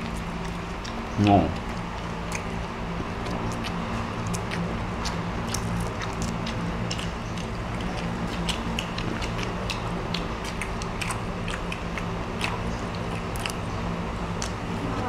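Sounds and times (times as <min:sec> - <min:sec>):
shrimp shells cracking and chewing: 0:00.0 - 0:14.6
low hum: 0:00.0 - 0:15.0.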